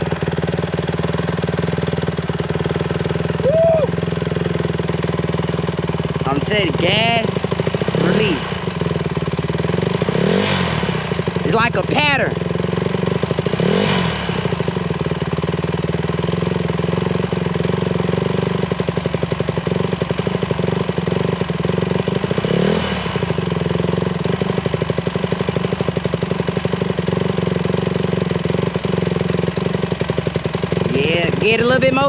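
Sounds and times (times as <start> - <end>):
dirt bike engine puttering: 0.0 - 32.0.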